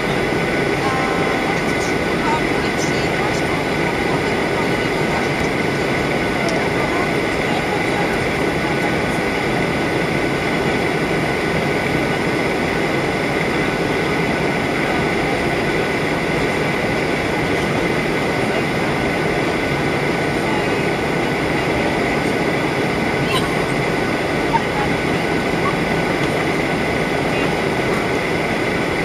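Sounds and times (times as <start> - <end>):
air rushing along fuselage: 0.0 - 29.0
jet engines droning: 0.0 - 29.0.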